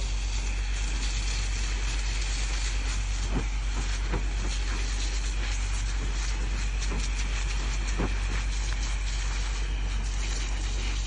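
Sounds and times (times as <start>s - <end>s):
pump engine drone: 0.0s - 11.0s
water jet hissing: 0.0s - 11.0s.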